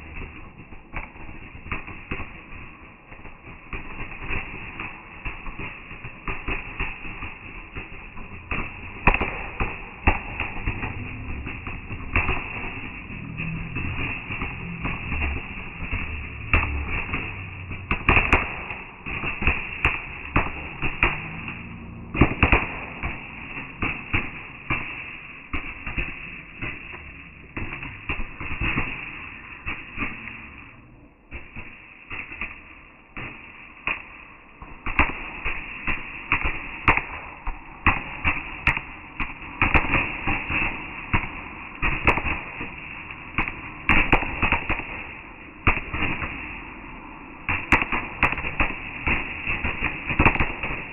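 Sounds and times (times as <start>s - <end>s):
fireworks bangs and cracks: 0.0s - 50.9s.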